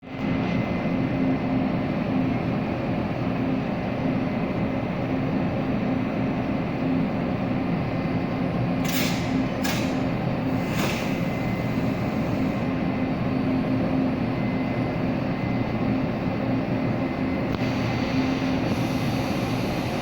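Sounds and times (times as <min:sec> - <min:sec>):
electric locomotive humming: 0:00.1 - 0:20.0.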